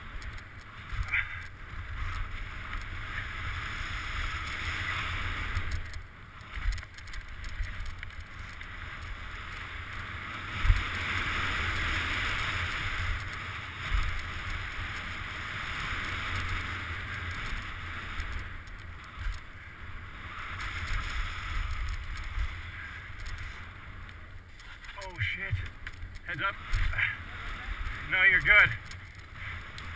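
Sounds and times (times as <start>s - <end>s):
bike tyres rumbling on dirt: 0.0s - 29.9s
wind rushing over microphone: 0.0s - 29.9s.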